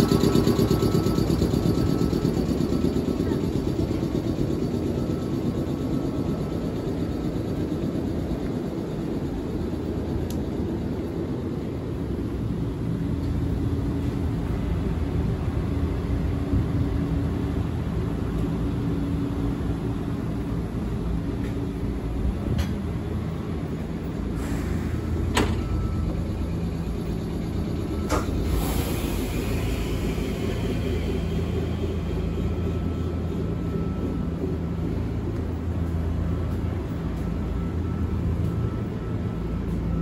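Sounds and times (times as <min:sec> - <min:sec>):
railcar rumble and hum: 0:00.0 - 0:40.0.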